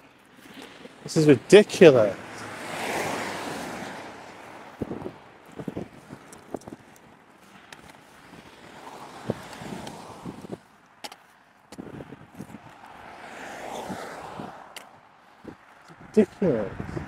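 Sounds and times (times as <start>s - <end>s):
cars passing at speed: 0.0s - 17.0s.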